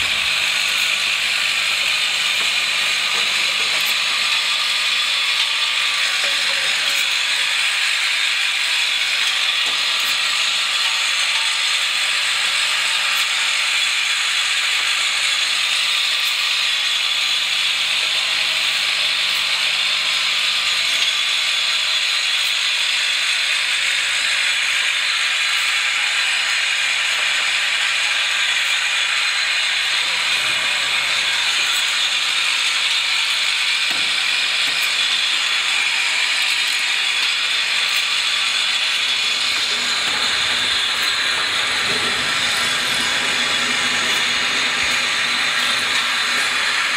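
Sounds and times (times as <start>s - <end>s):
filling machine rattling: 0.0s - 46.9s.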